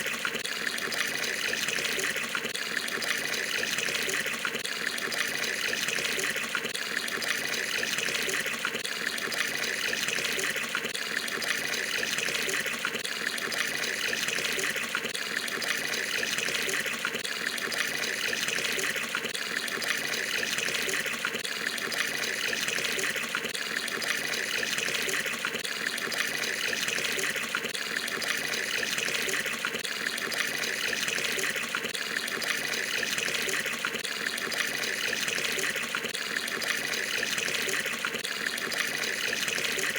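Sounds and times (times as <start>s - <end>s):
water pouring from tap into tub: 0.0s - 39.9s.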